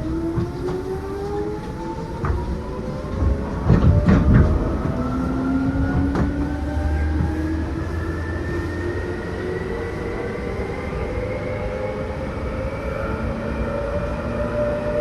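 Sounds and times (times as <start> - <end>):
low train rumble: 0.0 - 15.0.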